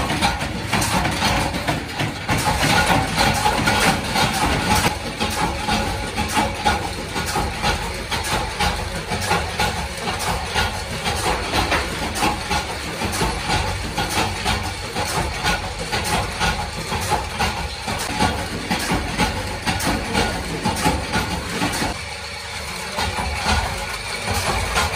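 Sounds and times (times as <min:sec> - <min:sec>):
workshop machinery running: 0:00.0 - 0:24.9.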